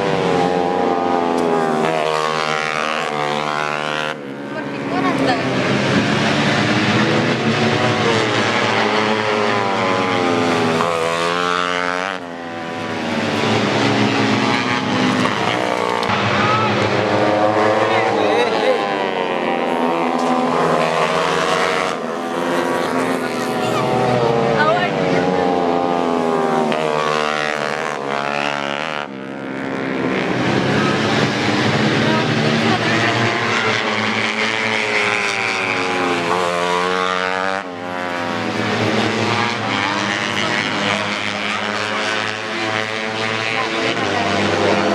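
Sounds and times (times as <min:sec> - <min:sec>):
racing motorcycles revving: 0:00.0 - 0:44.9.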